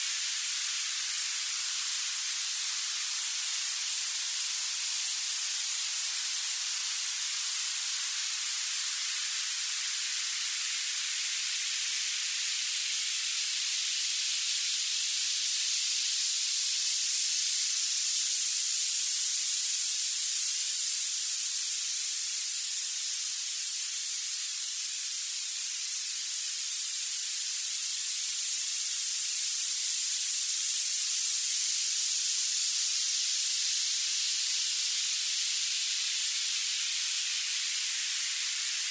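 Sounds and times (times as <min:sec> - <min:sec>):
high-pitched hiss: 0:00.0 - 0:38.9.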